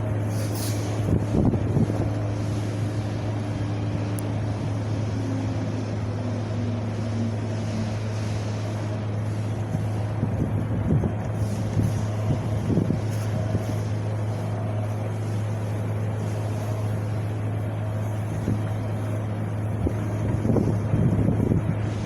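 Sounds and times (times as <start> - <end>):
wind blowing: 0.0 - 6.1, 8.3 - 22.0
low rumble: 0.0 - 22.0.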